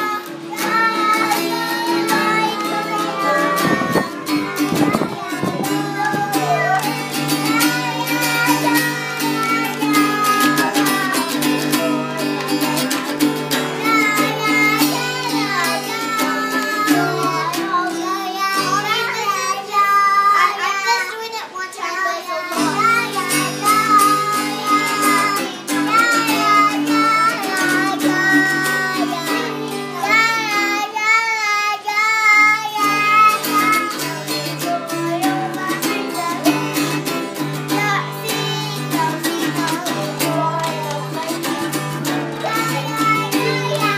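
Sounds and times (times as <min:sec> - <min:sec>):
girl singing: 0:00.0 - 0:43.9
strummed acoustic guitar: 0:00.0 - 0:43.9.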